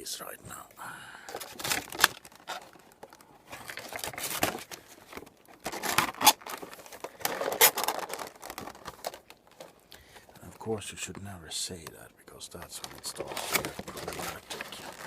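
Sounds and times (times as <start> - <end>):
plastic and cardboard packaging rustling: 1.2 - 11.1, 12.5 - 15.0.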